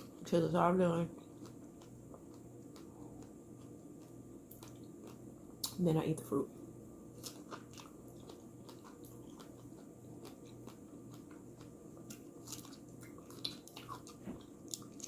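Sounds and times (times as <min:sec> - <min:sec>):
low steady hum: 0:00.0 - 0:15.0
person chewing: 0:01.1 - 0:05.8, 0:07.1 - 0:15.0.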